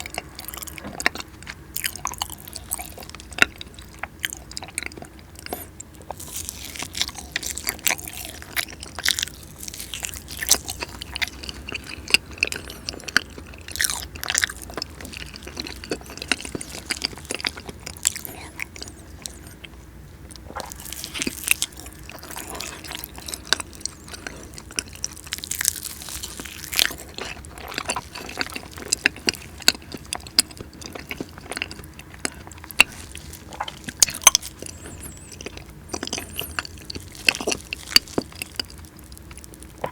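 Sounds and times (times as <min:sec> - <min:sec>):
person biting and chewing: 0:00.0 - 0:19.7, 0:20.3 - 0:39.9.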